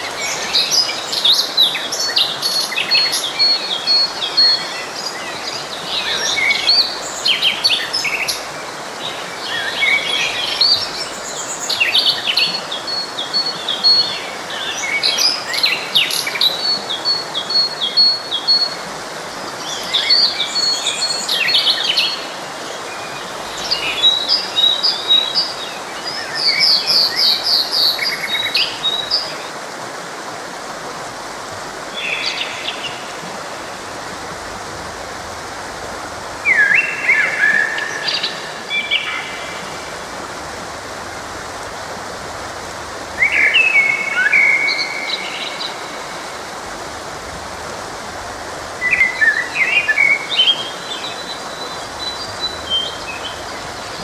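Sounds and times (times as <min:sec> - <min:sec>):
songbirds singing and chirping: 0:00.0 - 0:29.6, 0:31.8 - 0:40.6, 0:43.0 - 0:47.4, 0:48.2 - 0:54.0
forest stream rushing: 0:00.0 - 0:54.0.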